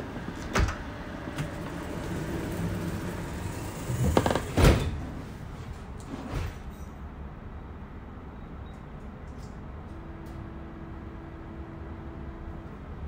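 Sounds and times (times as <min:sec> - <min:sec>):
tram low hum: 0:00.0 - 0:13.0.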